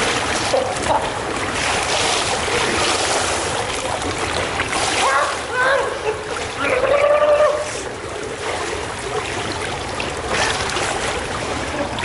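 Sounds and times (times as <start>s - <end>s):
water splashing from swimmers: 0.0s - 12.0s.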